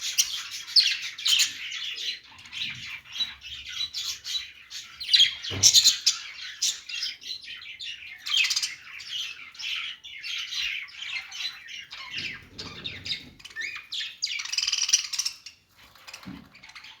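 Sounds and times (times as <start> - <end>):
budgerigars chattering and warbling: 0.0 - 17.0.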